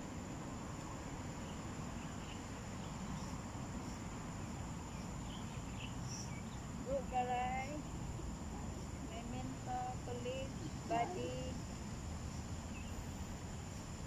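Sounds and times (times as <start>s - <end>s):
insects droning: 0.0s - 14.0s
low outdoor rumble: 0.0s - 14.0s.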